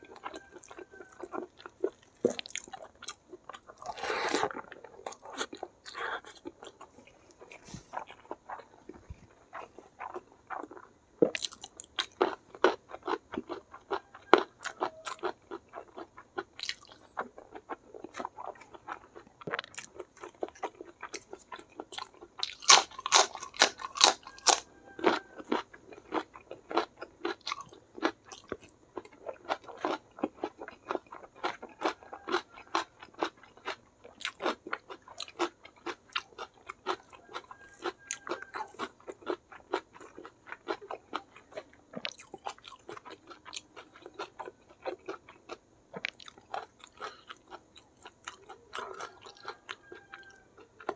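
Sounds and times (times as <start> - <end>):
chewing with wet mouth clicks: 0.0 - 50.9
crisp vegetable crunches: 0.0 - 50.9.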